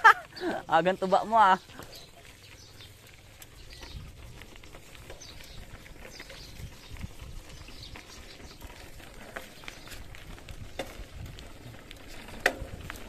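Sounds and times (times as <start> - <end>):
bicycle clicks and rattles: 0.0 - 13.0
wind rumbling on microphone: 1.7 - 13.0.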